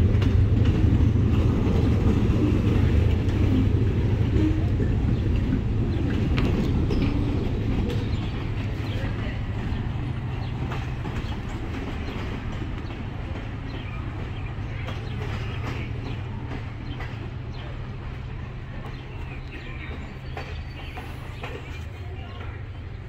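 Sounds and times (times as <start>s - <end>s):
freight train rolling on rails: 0.0s - 23.0s
wheels clicking and knocking: 0.0s - 23.0s.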